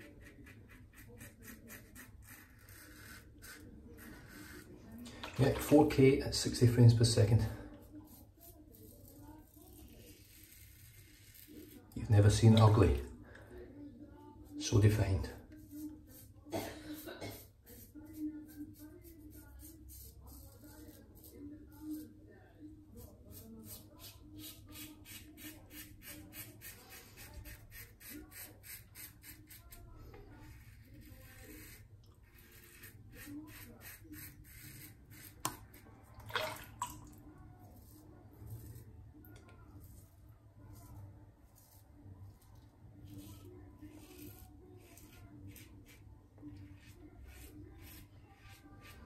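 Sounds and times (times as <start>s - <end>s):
razor scraping stubble: 0.0s - 12.8s, 14.4s - 22.2s, 22.9s - 36.0s, 37.5s - 49.0s.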